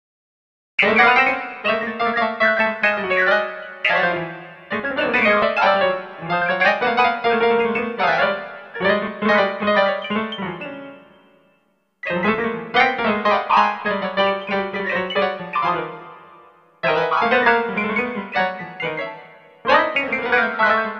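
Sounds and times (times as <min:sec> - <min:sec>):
midi piano music: 0:00.8 - 0:20.9.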